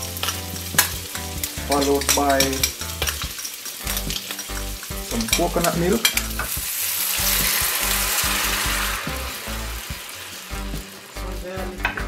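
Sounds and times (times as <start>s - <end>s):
background music with bass beat: 0.0s - 12.0s
loud sizzling in a frying pan: 0.0s - 12.0s.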